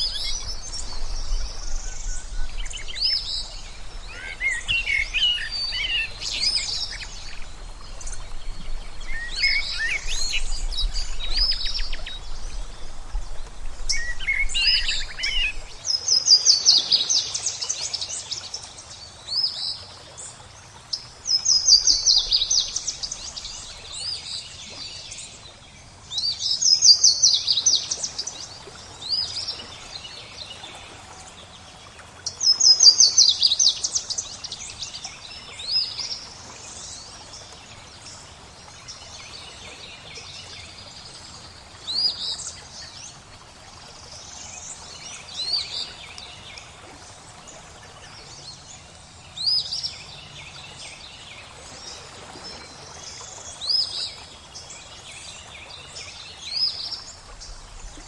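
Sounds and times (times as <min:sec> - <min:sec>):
songbirds trilling and chirping: 0:00.0 - 0:26.2, 0:27.0 - 0:58.0
flowing water: 0:00.0 - 0:58.0.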